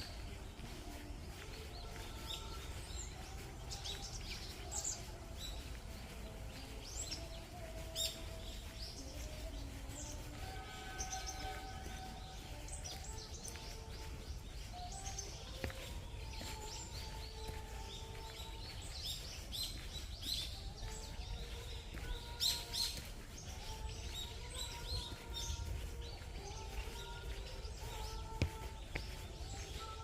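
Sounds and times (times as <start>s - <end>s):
birds chirping and calling: 0.0s - 30.0s.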